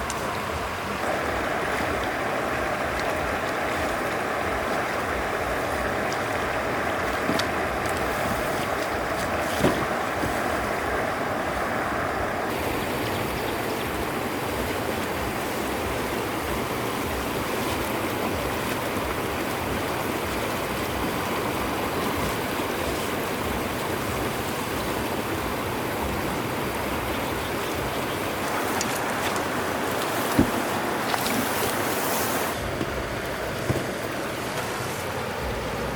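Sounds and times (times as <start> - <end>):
stream water rushing: 0.0 - 35.9.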